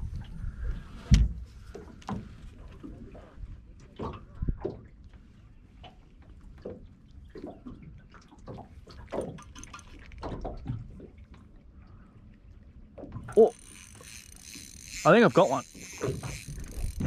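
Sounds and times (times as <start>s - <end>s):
waves lapping against metal hull: 0.0s - 17.0s.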